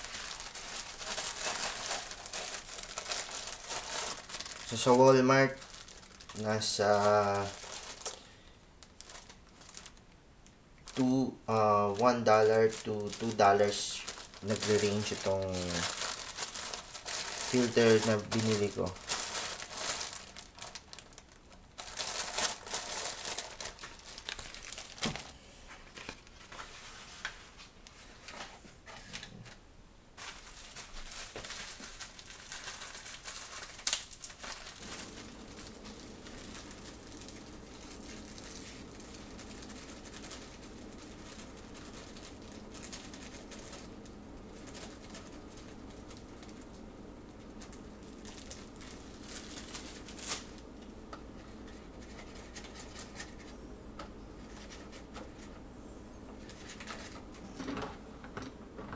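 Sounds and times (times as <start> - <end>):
paper coffee filter crinkling: 0.0 - 10.1, 10.8 - 28.5, 30.2 - 57.8
steady low hum: 0.0 - 58.9.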